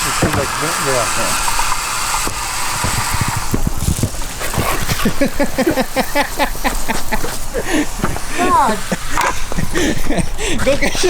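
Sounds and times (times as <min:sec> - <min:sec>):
hiss: 0:00.0 - 0:11.0.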